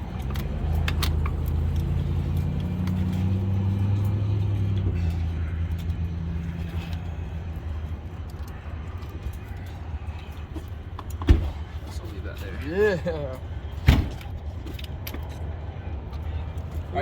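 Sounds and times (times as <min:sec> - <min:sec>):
motor vehicle engine humming: 0:00.0 - 0:17.0.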